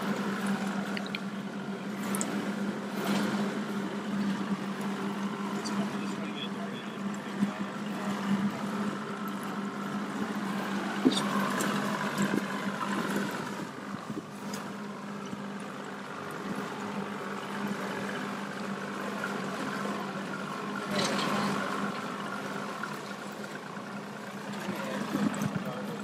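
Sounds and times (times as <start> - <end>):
boat motor humming: 0.0 - 26.0
water against hull: 0.0 - 26.0.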